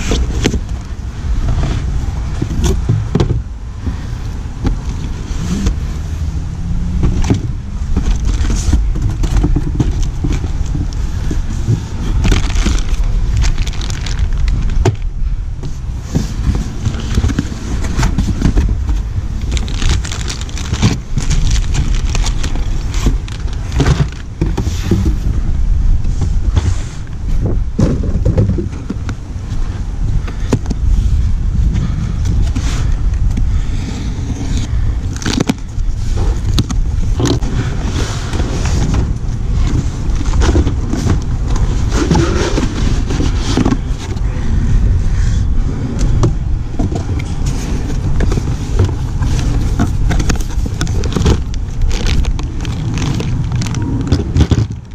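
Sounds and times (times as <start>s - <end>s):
cardboard scraping and rustling: 0.0s - 31.2s, 31.8s - 54.9s
steady low rumble: 0.0s - 54.9s.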